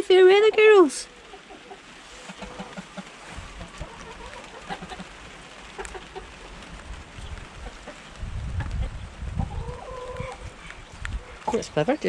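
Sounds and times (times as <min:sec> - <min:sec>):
rain pattering: 0:00.0 - 0:12.0
hens clucking softly: 0:00.5 - 0:06.6, 0:07.6 - 0:11.6.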